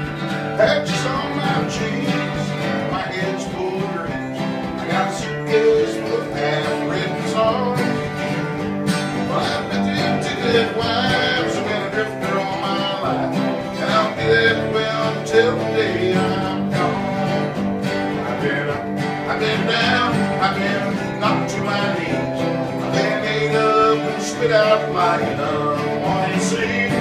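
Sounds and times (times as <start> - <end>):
acoustic guitars strumming: 0.0 - 27.0.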